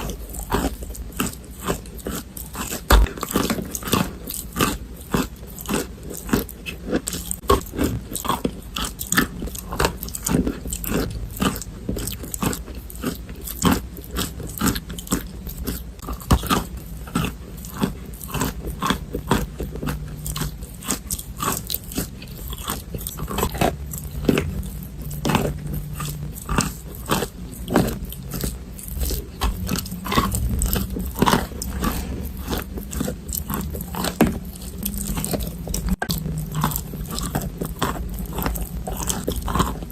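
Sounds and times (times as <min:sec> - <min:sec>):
chalk crunching being chewed: 0:00.0 - 0:39.9.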